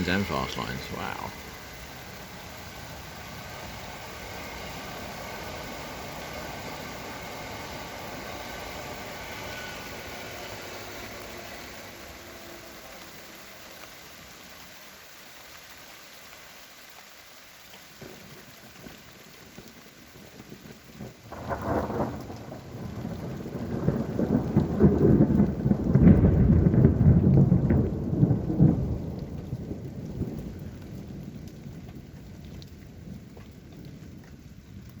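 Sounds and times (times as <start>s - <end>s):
thunder rumbling: 0.0s - 12.2s, 18.0s - 35.0s
steady rain: 0.0s - 35.0s.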